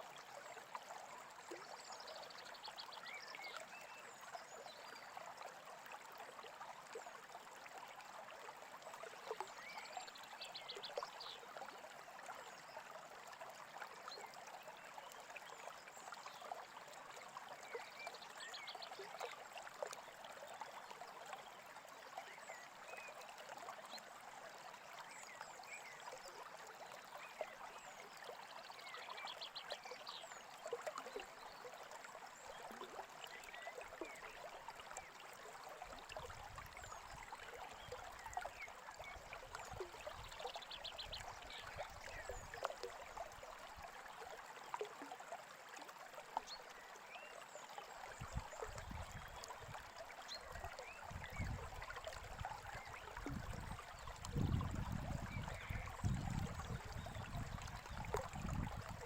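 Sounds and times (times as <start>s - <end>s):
small stream babbling: 0.0s - 59.0s.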